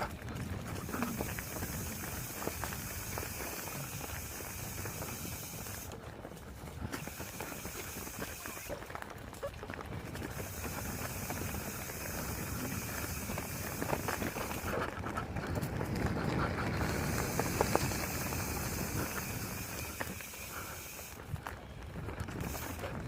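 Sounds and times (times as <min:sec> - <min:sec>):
bike tyres rolling on dirt: 0:00.0 - 0:23.0
small rattles and clicks: 0:00.0 - 0:23.0.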